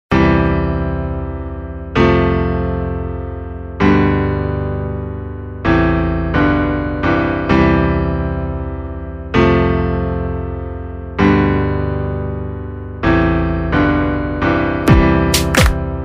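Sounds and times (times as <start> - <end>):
electric piano chords: 0.1 - 16.0.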